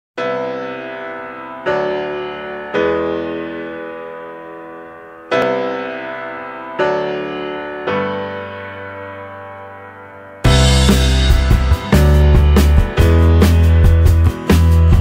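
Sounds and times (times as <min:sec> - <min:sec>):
slow music chords: 0:00.3 - 0:15.0.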